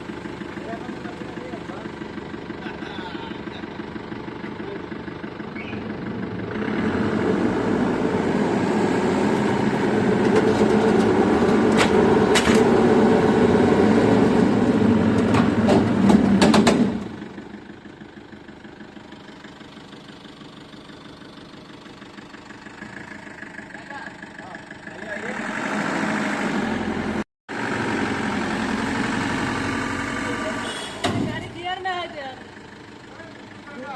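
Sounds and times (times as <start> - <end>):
heavy vehicle engine: 0.0 - 33.9.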